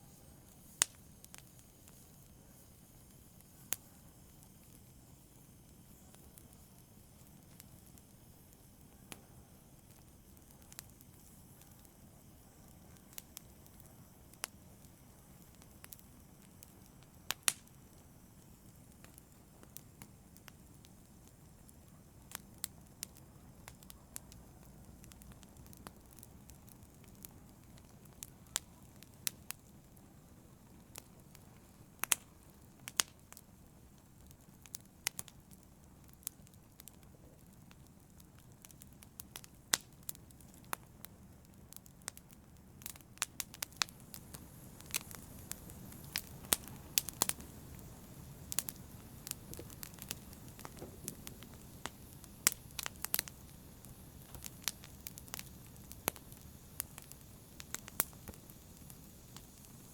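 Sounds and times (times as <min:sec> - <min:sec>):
hiss of burning: 0:00.0 - 0:59.9
wood fire crackling: 0:00.0 - 0:59.9.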